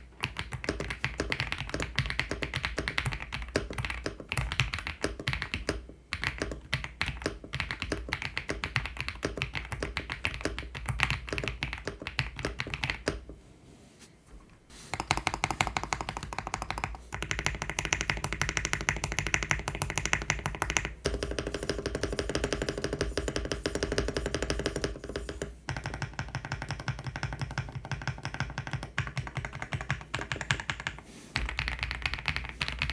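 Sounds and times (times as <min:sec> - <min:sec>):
mechanical keyboard typing: 0:00.2 - 0:13.2, 0:14.9 - 0:32.9.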